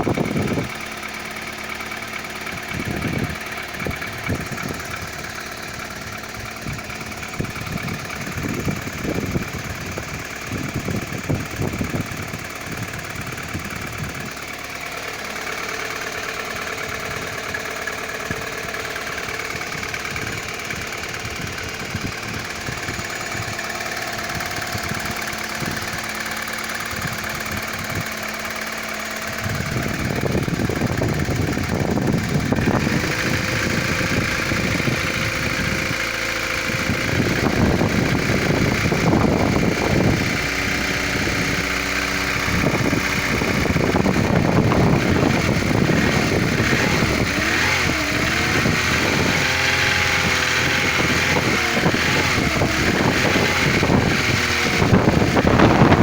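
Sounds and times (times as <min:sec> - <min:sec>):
car engine running: 0:00.0 - 0:56.0
rapid knocking from engine: 0:00.0 - 0:56.0.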